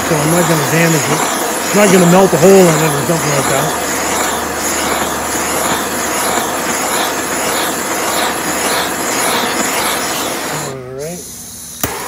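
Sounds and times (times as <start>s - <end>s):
gas torch hissing: 0.0s - 12.0s.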